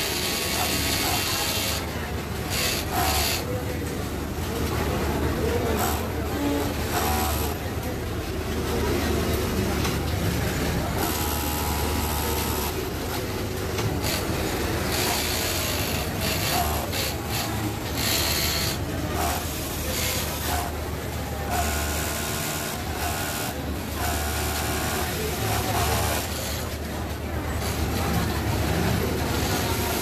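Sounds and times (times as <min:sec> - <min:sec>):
overlock sewing machine running: 0:00.0 - 0:30.0.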